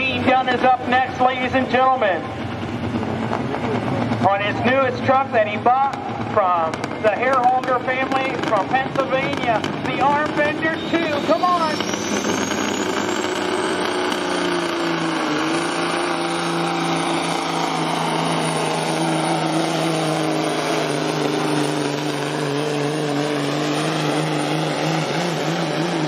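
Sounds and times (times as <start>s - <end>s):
diesel truck engine under load: 0.0s - 26.0s
high whine: 0.0s - 26.0s.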